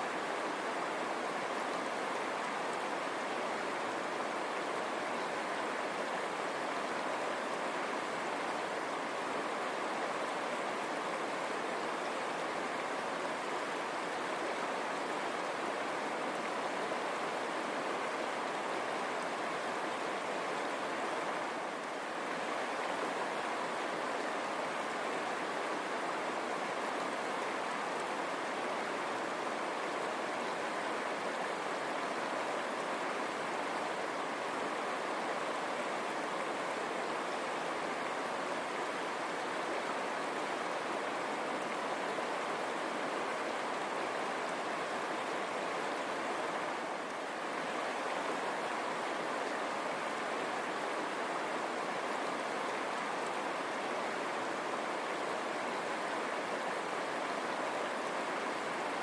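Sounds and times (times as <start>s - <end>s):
river water over stones: 0.0s - 59.0s.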